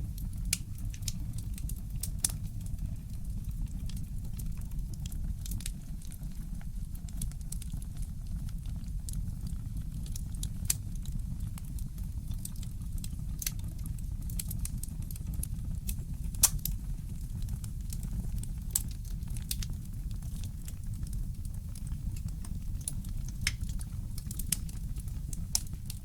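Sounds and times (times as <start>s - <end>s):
fireplace crackling and popping: 0.0s - 26.0s.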